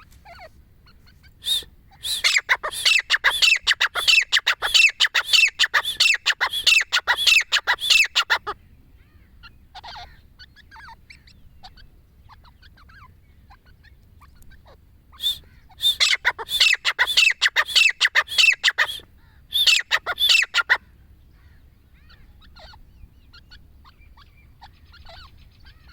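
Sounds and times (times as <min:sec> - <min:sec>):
francolins calling: 0:00.0 - 0:25.9.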